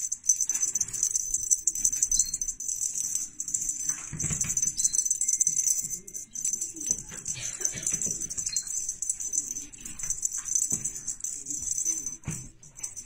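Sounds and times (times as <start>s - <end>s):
small bells jingling: 0.0s - 13.0s.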